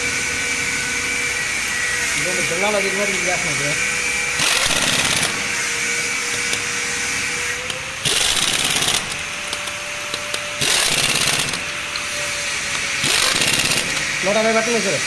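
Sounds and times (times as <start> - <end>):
power tool running: 0.0 - 15.0.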